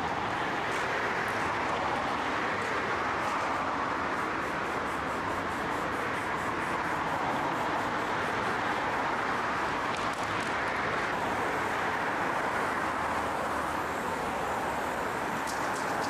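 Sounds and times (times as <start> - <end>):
rushing traffic: 0.0 - 16.0.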